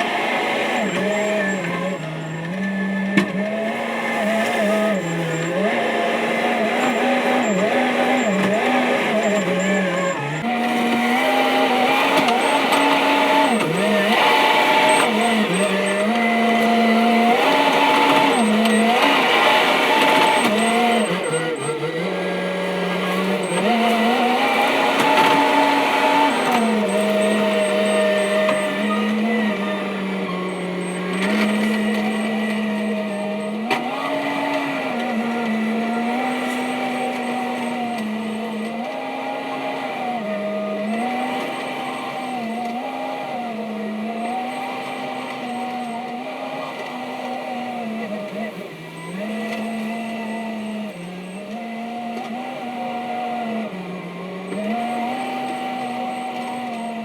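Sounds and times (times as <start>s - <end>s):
track loader engine droning: 0.0s - 57.0s.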